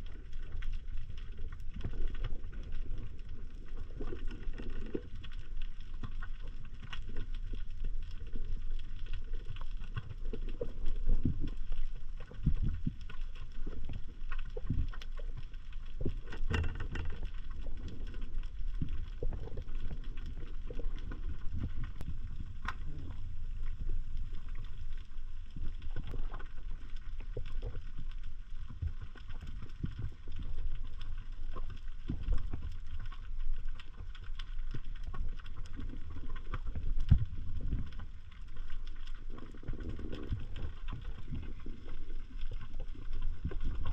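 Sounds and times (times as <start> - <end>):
muffled underwater rumble: 0.0 - 43.9
small clicks and crackles: 0.0 - 43.9.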